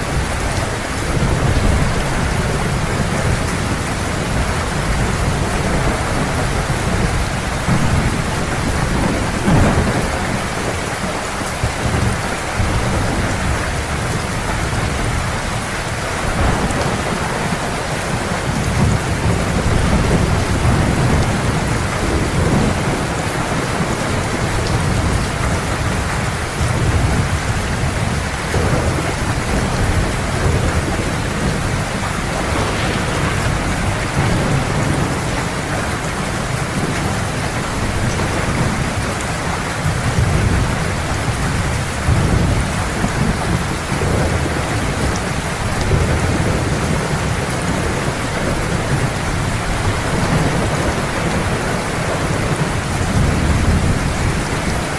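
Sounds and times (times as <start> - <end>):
heavy rain: 0.0 - 54.9
thunder rumbling: 0.0 - 54.9.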